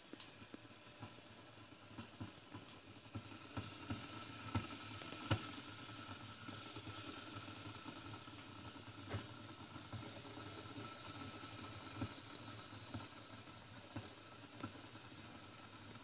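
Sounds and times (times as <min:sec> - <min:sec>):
espresso machine humming: 0:00.0 - 0:16.0.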